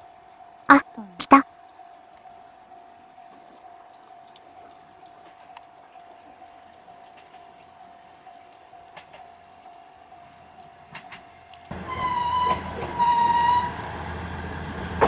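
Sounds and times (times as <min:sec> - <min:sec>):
faint steady hum: 0:00.0 - 0:13.0
rain dripping and pattering: 0:00.0 - 0:15.0.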